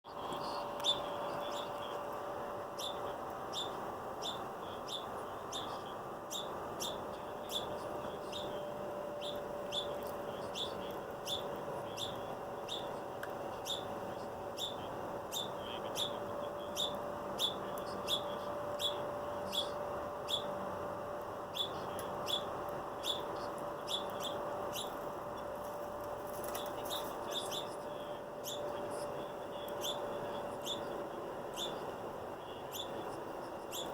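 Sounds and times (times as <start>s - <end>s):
small bird chirping: 0.1s - 20.6s, 21.5s - 33.9s
steady hum: 0.1s - 33.9s.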